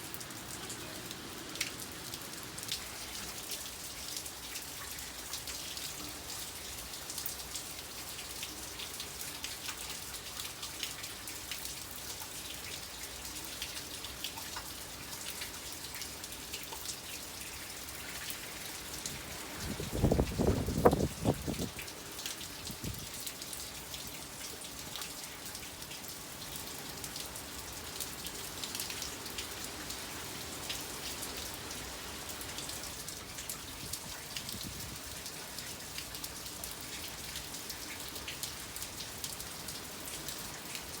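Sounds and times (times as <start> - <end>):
heavy rain: 0.0 - 14.4, 15.2 - 41.0.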